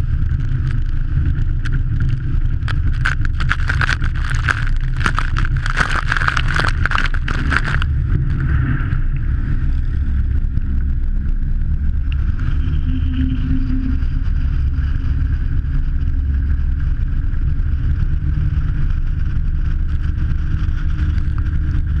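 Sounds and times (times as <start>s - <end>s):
aircraft engines rumbling: 0.0s - 22.0s
rushing buffeting noise: 0.0s - 22.0s.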